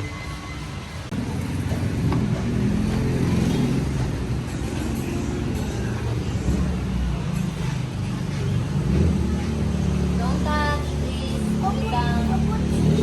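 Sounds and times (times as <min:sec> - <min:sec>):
vehicle engine running: 0:01.1 - 0:13.0.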